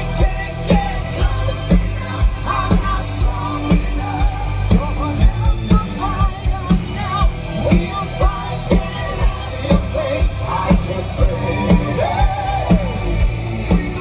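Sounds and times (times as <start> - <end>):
live rock band: 0.0 - 14.0
man singing with vibrato: 0.0 - 14.0.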